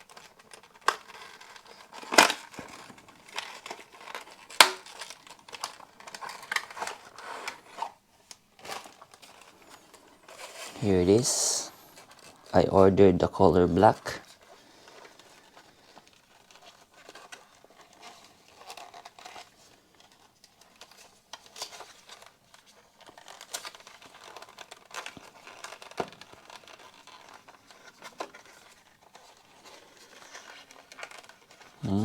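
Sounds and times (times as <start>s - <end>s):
packaging crinkling and rustling: 0.0s - 32.0s.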